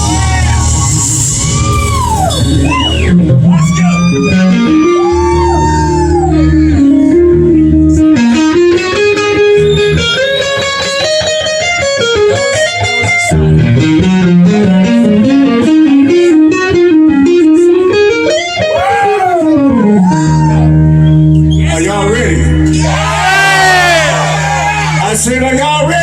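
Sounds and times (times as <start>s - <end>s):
electric guitar lead: 0.0s - 26.0s.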